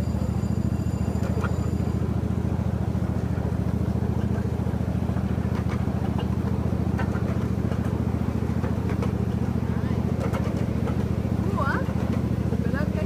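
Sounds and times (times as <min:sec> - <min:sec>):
small train engine throbbing: 0:00.0 - 0:13.0.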